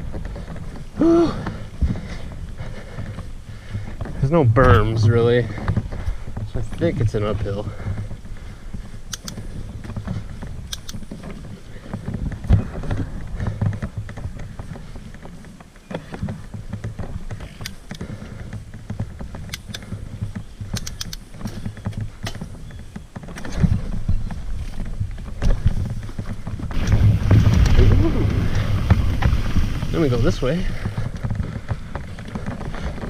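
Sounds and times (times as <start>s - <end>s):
bike clicks and rattles: 0.0s - 33.0s
tyres rumbling on dirt trail: 0.0s - 33.0s.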